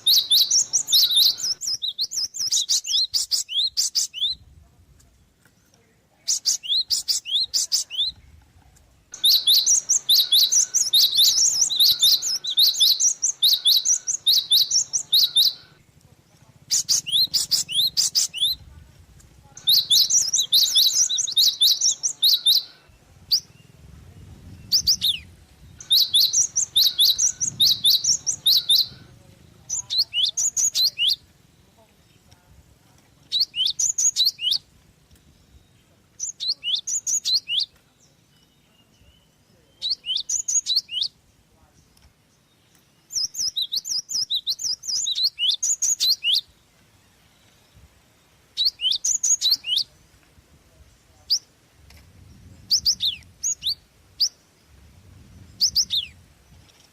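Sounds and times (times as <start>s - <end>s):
songbird rapid high chirps: 0.0s - 50.0s, 50.8s - 56.9s.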